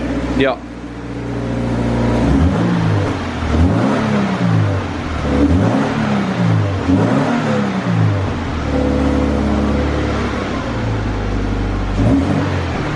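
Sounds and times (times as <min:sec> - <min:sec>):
car engine revving and idling: 0:00.0 - 0:12.9.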